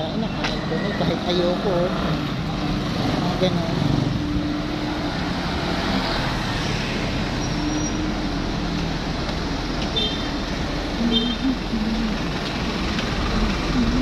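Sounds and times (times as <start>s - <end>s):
minibus engine running: 0.0s - 14.0s
road traffic noise: 0.0s - 14.0s.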